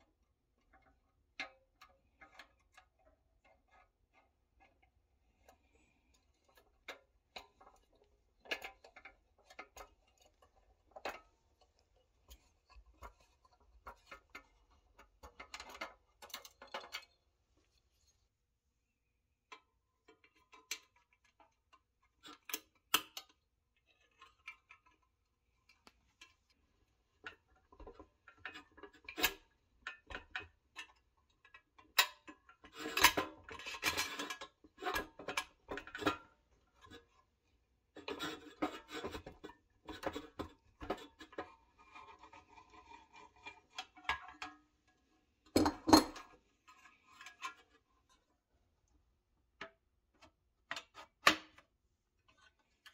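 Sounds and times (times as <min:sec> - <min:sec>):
light metal clicks and scrapes: 0:00.6 - 0:18.2, 0:19.5 - 0:48.5, 0:52.2 - 0:52.9.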